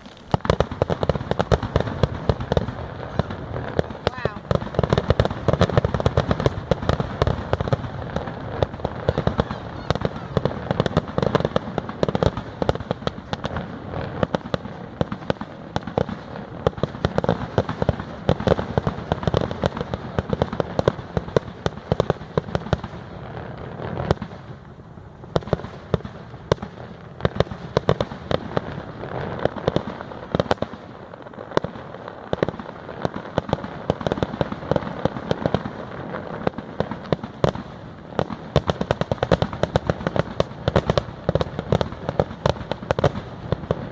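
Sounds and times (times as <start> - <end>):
fireworks bangs pops and crackles: 0.0 - 43.9.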